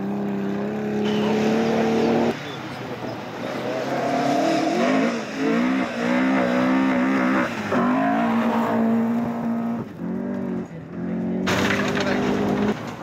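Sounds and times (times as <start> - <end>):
rally car engine revving hard: 0.0 - 2.4, 3.6 - 13.0.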